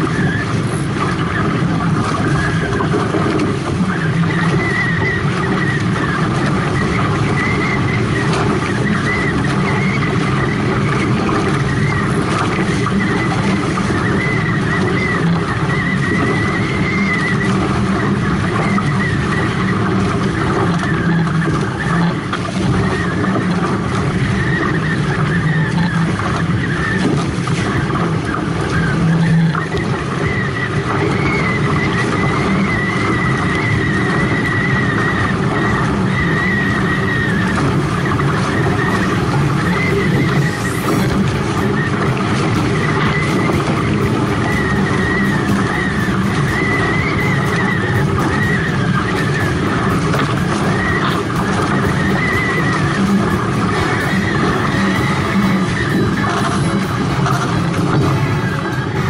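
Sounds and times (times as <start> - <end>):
water rushing past hulls: 0.0 - 59.0
wind buffeting microphone: 0.0 - 59.0
thin high whistle: 3.8 - 59.0.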